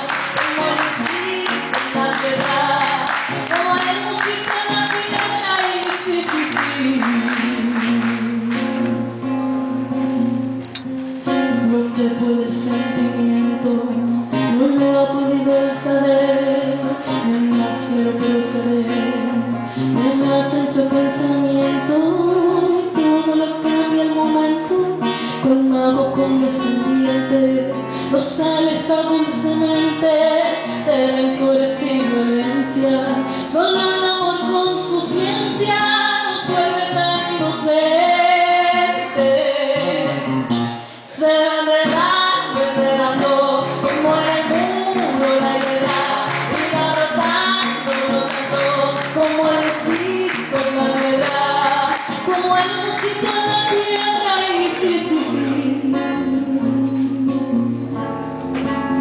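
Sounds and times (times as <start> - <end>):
woman singing: 0.0 - 9.1, 11.2 - 58.1
plucked guitar: 0.0 - 59.0.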